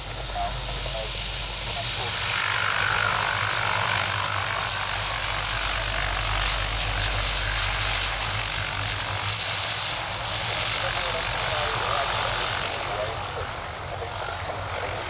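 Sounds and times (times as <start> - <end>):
turboprop engines whining: 0.0 - 15.0.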